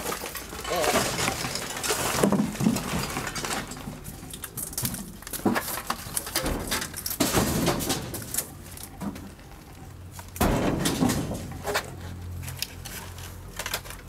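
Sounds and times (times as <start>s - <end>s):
scrap metal clattering: 0.0s - 9.3s, 10.3s - 13.9s.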